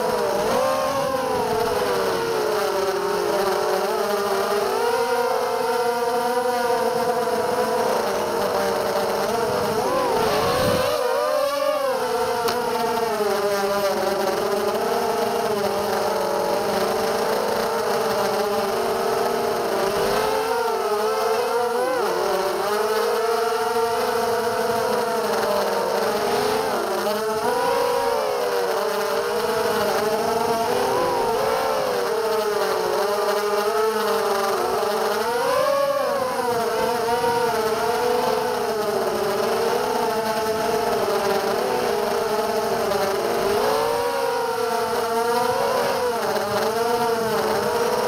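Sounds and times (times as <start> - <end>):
quadcopter motors whining: 0.0 - 48.0.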